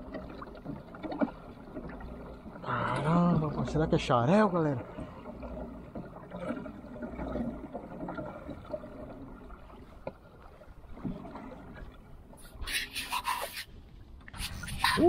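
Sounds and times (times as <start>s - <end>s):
water lapping against a kayak: 0.0s - 15.0s.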